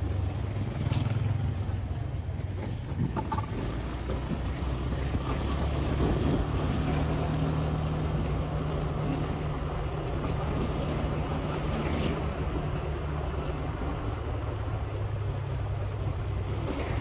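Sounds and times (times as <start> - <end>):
motorbike engine cruising: 0.0 - 17.0
road and wind noise: 0.0 - 17.0.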